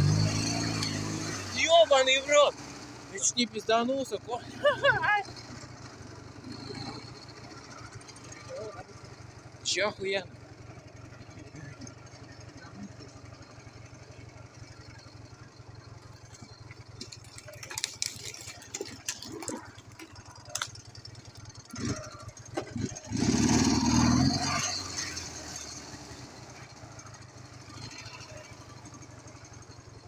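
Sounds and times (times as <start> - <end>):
knocks and rattles over rough ground: 0.0 - 30.0
motorcycle engine running at low revs: 0.0 - 30.0.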